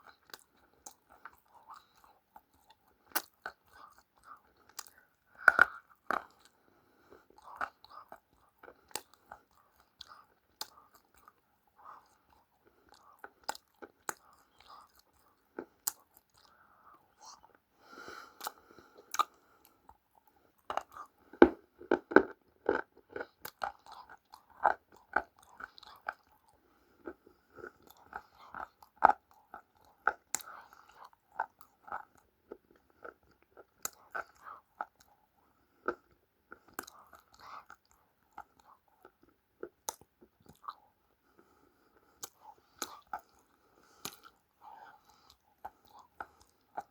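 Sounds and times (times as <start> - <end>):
chewing crunchy food: 0.0 - 46.9.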